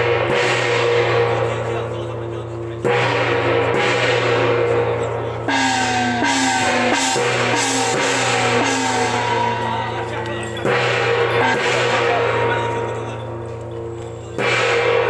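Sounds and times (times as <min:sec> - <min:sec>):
cymbals clashing: 0:00.0 - 0:15.0
gongs struck ringing: 0:00.0 - 0:15.0.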